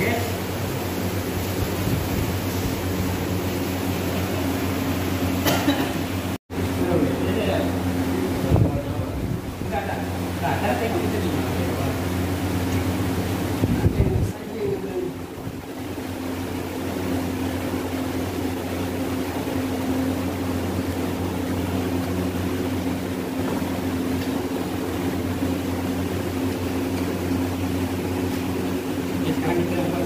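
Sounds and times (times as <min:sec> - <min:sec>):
machine drone with hum and hiss: 0:00.0 - 0:30.0.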